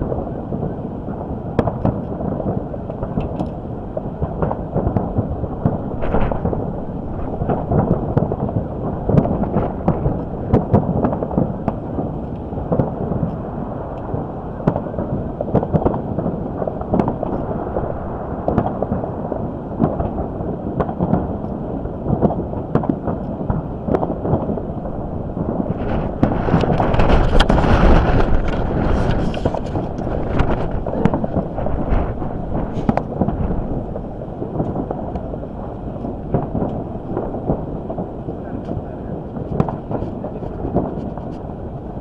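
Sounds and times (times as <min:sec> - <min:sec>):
fireworks booming and crackling: 0:00.0 - 0:42.0
wind buffeting microphone: 0:00.0 - 0:42.0.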